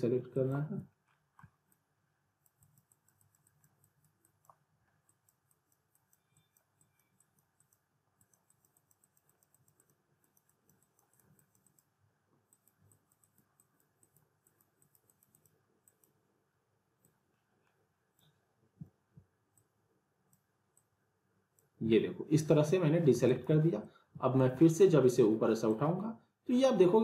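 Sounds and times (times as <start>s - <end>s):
faint computer mouse clicking: 0.8s - 23.1s.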